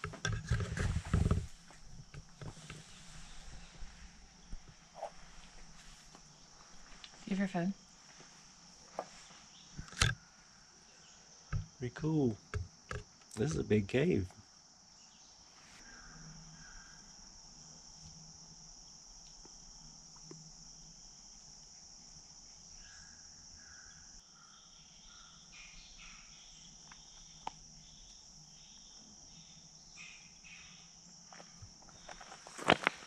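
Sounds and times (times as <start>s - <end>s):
chorus of insects: 0.0s - 33.0s.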